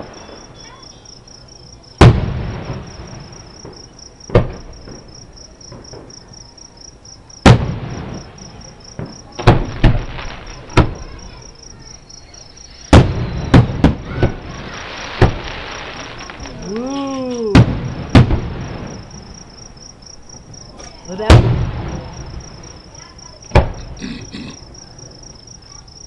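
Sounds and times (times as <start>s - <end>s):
crickets chirping: 0.0s - 26.0s
distant fireworks booming: 0.0s - 26.0s.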